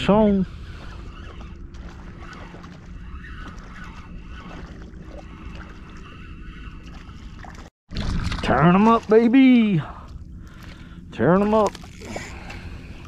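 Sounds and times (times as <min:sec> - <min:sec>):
fishing reel spinning hum: 0:00.0 - 0:07.7, 0:08.7 - 0:13.0
water around a kayak: 0:00.0 - 0:13.0.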